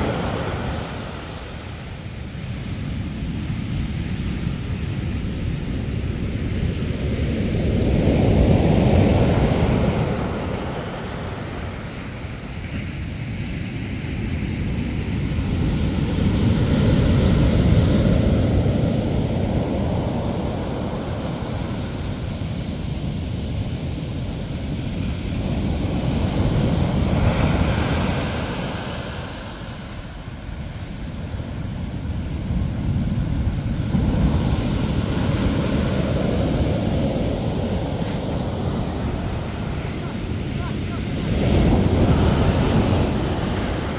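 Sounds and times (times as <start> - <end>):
ocean surf breaking on beach: 0.0 - 43.9.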